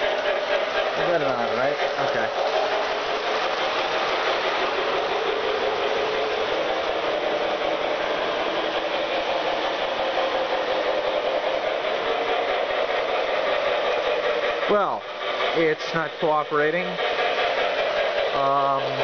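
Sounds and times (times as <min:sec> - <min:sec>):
model train motor hum and rattle: 0:00.0 - 0:19.0.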